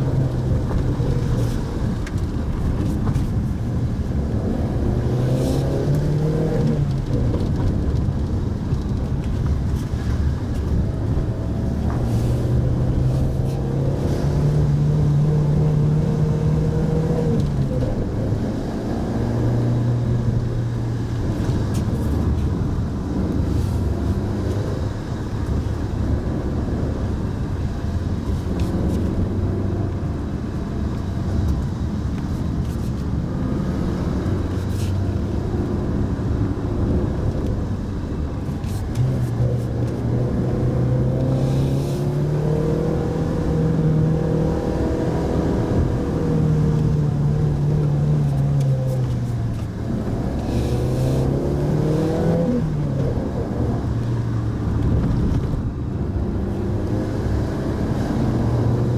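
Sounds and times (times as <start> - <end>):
road noise: 0.0 - 58.9.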